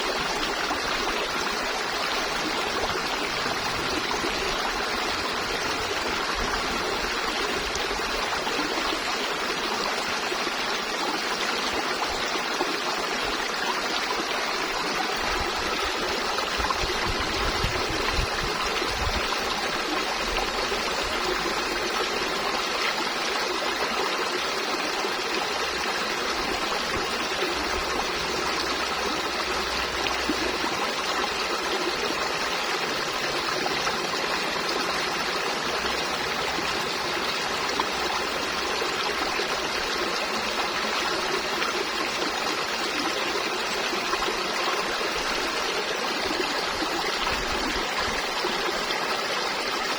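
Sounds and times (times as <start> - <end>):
river flowing over rocks: 0.0 - 49.9.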